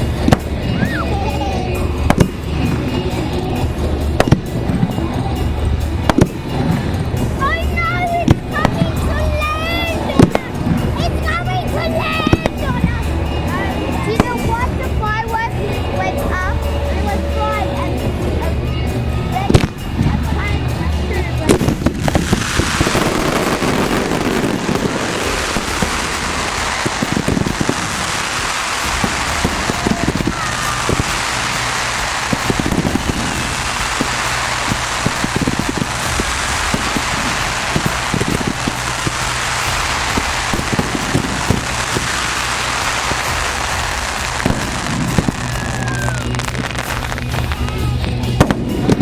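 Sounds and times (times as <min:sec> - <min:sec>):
fireworks crackling pops: 0:00.0 - 0:05.2, 0:06.0 - 0:13.0, 0:13.7 - 0:15.2, 0:19.4 - 0:20.5, 0:21.2 - 0:49.0.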